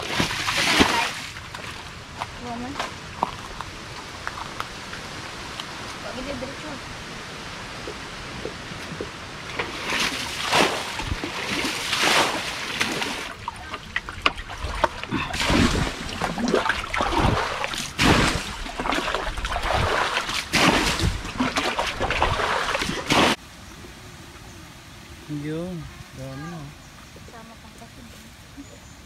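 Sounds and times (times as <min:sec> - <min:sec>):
water splashing and sloshing: 0:00.0 - 0:23.6.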